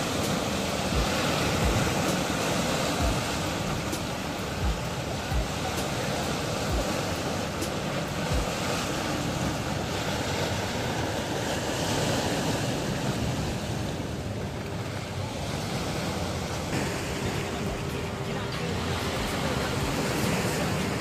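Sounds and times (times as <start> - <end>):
sea waves washing against rocks: 0.0 - 21.0.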